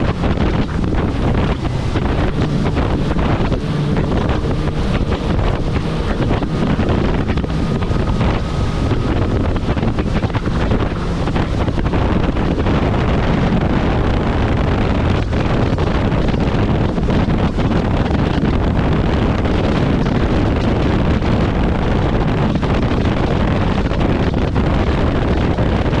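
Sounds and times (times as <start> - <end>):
jet ski running: 0.0 - 26.0
wind rushing over microphone: 0.0 - 26.0.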